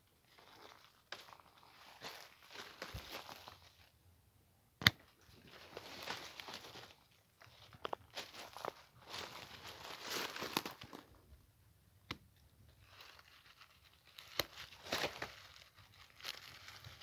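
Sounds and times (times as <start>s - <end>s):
dry leaves crunching: 0.2s - 3.9s, 5.4s - 11.2s, 12.8s - 17.0s.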